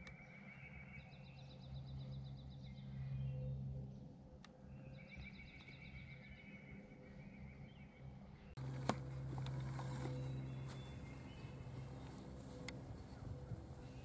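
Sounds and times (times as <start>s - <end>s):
low steady hum: 0.0s - 14.0s
songbirds singing rapid trills: 0.0s - 14.0s.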